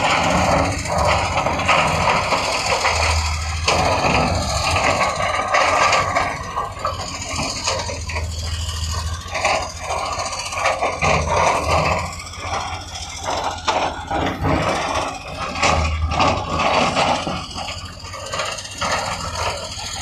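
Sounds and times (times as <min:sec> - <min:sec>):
diesel engine running: 0:00.0 - 0:20.0
scraping and rattling: 0:00.0 - 0:20.0.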